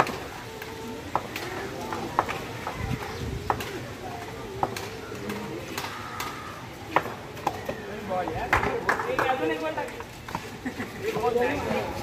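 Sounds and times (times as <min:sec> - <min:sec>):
faint distant voices: 0:00.0 - 0:12.0.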